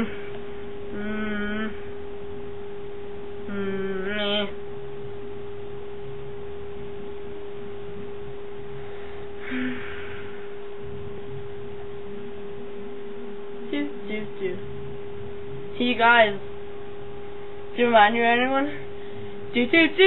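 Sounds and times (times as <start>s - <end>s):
short hummed vocal sound: 0.0s - 2.1s, 3.3s - 5.2s, 6.9s - 20.0s
steady electrical whine: 0.0s - 20.0s.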